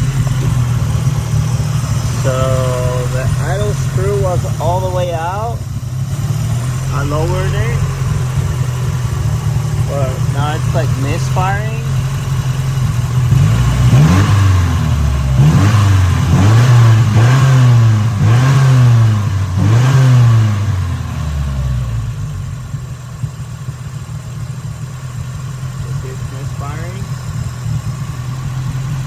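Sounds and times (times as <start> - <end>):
car engine revving: 0.0 - 29.0
engine rough idle: 0.0 - 29.0.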